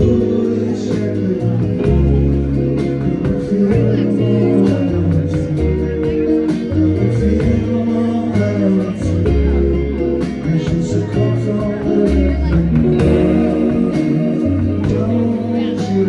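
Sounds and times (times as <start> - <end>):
bass guitar: 0.0 - 16.0
electric guitars: 0.0 - 16.0
steady drum beat: 0.0 - 16.0.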